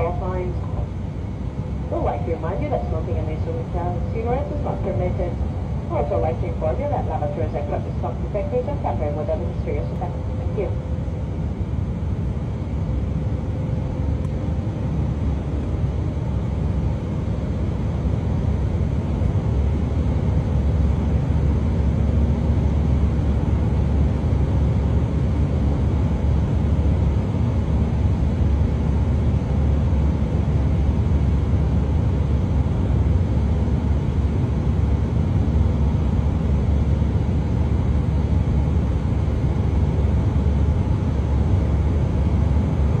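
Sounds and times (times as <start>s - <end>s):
airliner cabin engine rush: 0.0s - 43.0s.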